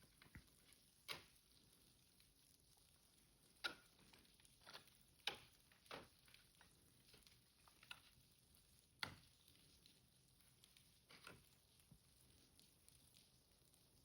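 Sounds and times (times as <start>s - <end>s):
faint clicks and taps: 0.0s - 14.0s.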